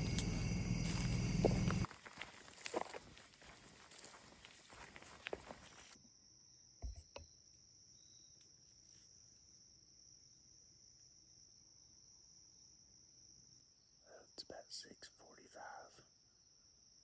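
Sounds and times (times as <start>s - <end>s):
crickets droning: 0.0s - 17.0s.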